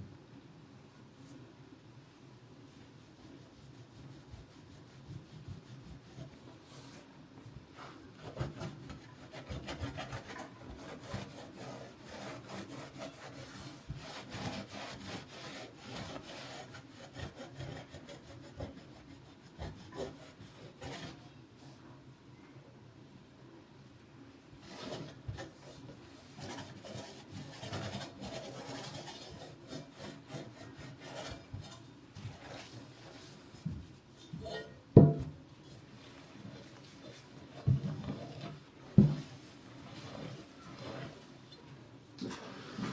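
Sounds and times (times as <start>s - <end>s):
rubbing scrapes: 2.7s - 21.3s, 24.6s - 34.7s, 35.6s - 42.9s.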